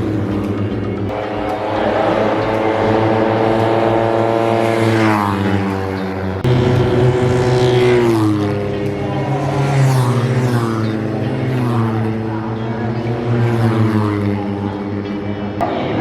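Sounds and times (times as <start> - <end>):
motorcycles passing at speed: 0.0 - 16.0.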